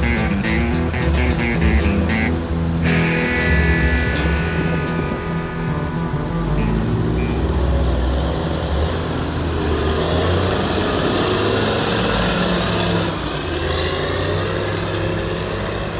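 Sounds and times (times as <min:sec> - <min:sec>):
heavy vehicle engine running: 0:00.0 - 0:15.9.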